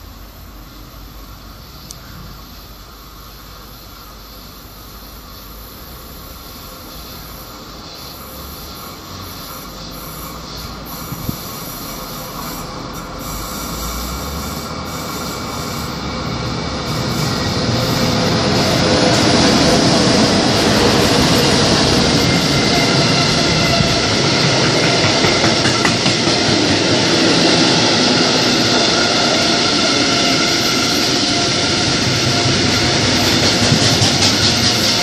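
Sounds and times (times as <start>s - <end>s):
train passing on rails: 0.0s - 35.0s.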